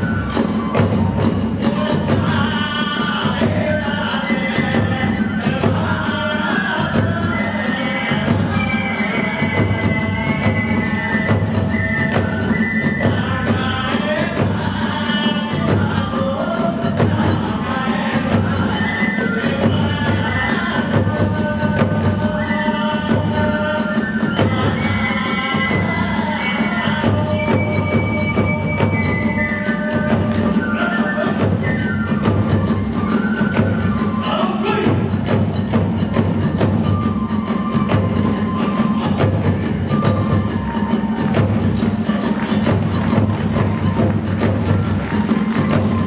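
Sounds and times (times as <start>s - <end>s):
bamboo flute melody: 0.0s - 46.0s
drums: 0.0s - 46.0s.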